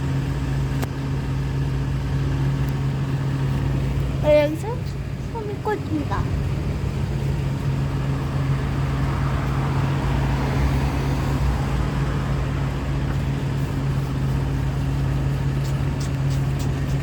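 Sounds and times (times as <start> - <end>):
road traffic passing: 0.0 - 17.0
vehicle engine idling: 0.0 - 17.0.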